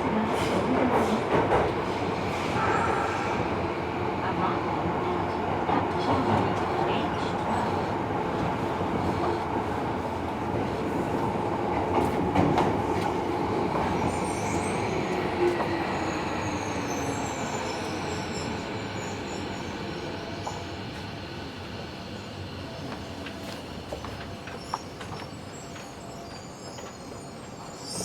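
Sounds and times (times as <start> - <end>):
train wheel and track rumble: 0.0 - 28.0.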